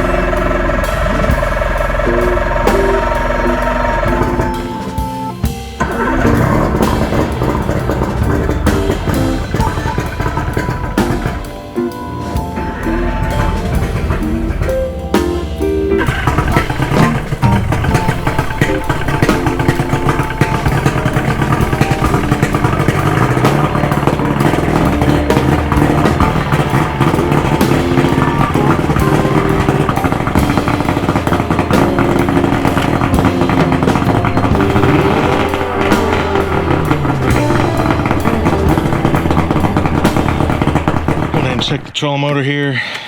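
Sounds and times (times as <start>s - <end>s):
outboard boat motor running: 0.0s - 41.8s
background music: 0.0s - 42.7s.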